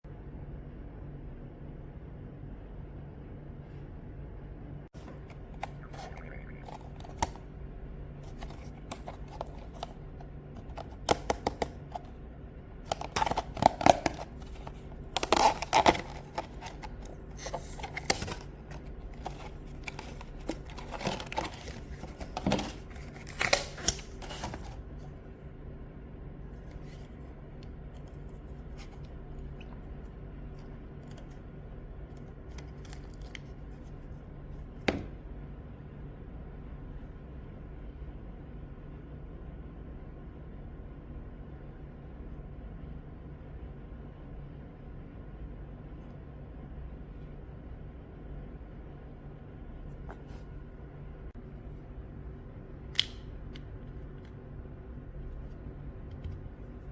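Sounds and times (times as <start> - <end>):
low electrical hum: 0.1 - 56.9.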